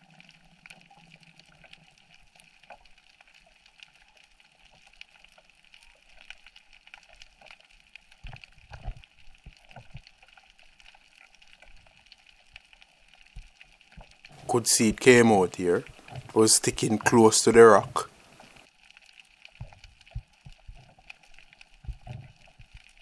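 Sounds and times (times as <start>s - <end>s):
underwater crackling clicks: 0.6s - 14.4s, 15.8s - 16.4s, 18.1s - 23.0s.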